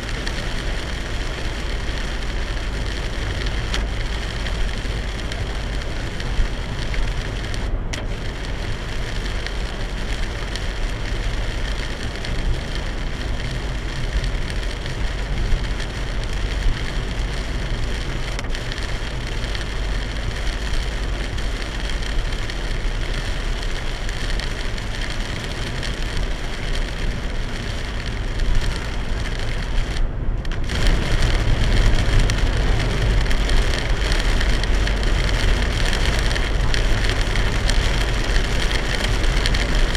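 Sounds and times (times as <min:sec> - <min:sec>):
torrential rain drumming on car: 0:00.0 - 0:39.9
tyre and road noise: 0:00.0 - 0:39.9.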